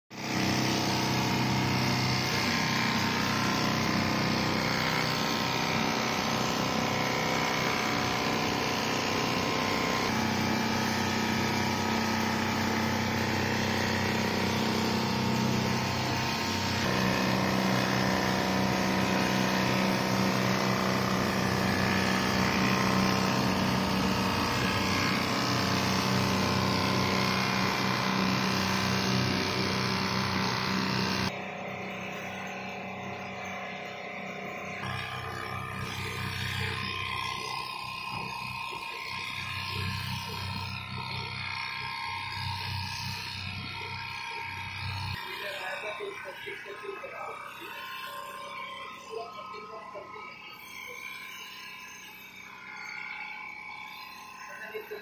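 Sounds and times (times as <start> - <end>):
quilting machine humming: 0.1 - 55.0.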